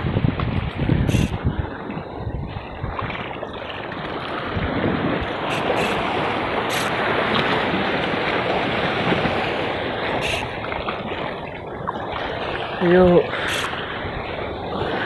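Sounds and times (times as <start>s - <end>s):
sea waves against rocks: 0.0s - 15.0s
wind buffeting microphone: 0.0s - 15.0s.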